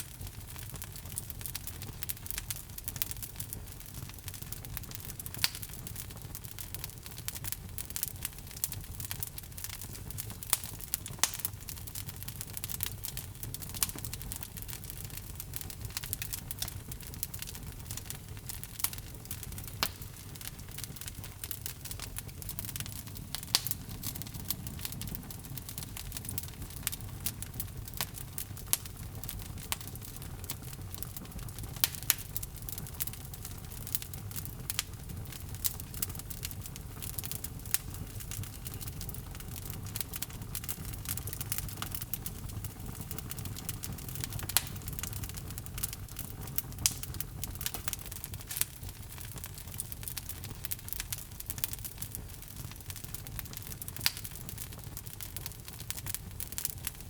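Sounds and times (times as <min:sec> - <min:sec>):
fire crackling and popping: 0:00.0 - 0:57.0
fire flames rumbling: 0:00.0 - 0:57.0.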